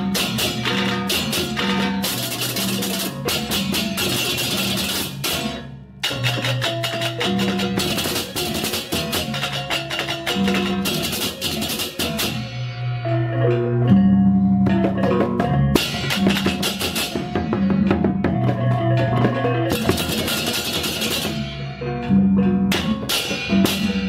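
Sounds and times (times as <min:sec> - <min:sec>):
background music with percussion: 0:00.0 - 0:24.0.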